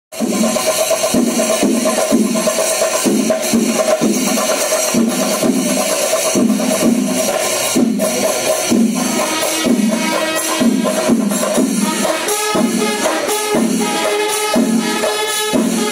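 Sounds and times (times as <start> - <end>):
clashing cymbals: 0.1 - 15.9
drums beaten rapidly: 0.1 - 15.9.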